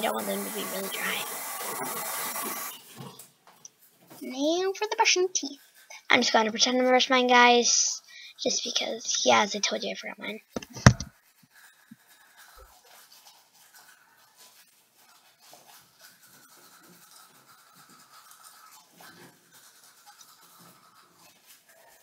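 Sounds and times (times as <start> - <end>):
toothbrush scrubbing teeth: 0.0 - 22.0.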